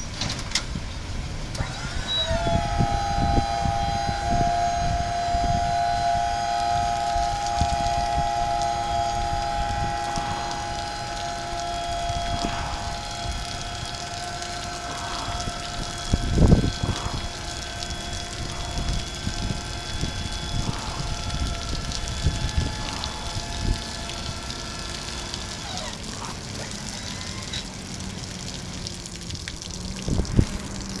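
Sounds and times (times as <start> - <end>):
hydraulic hoist whine: 0.0 - 31.0
truck engine humming: 0.0 - 31.0.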